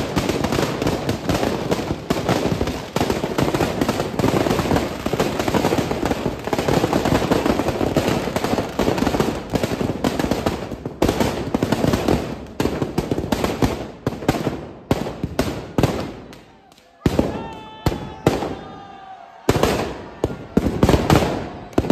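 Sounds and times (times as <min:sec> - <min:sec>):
firecrackers banging: 0:00.0 - 0:18.8, 0:19.4 - 0:21.9.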